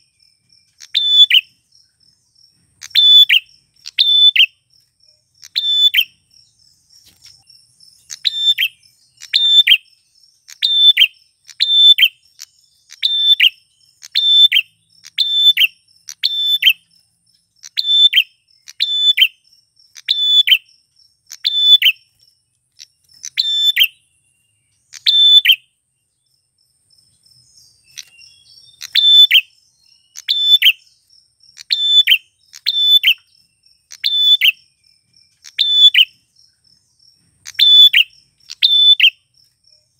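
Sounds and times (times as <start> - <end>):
bird chirping: 0.0 - 39.9
faint insect trill: 0.0 - 39.9.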